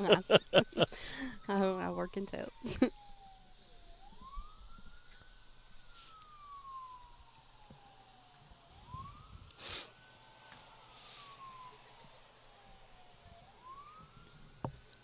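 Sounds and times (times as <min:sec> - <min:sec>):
distant wailing siren: 0:00.0 - 0:15.0.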